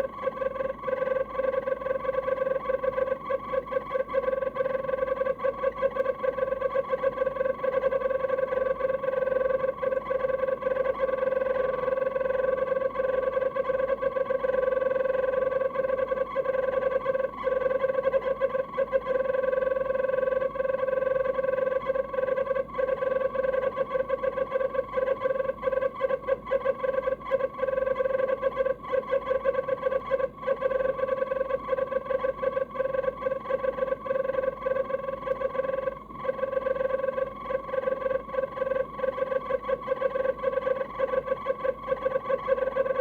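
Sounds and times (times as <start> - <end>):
fridge fan motor whine: 0.0 - 43.0.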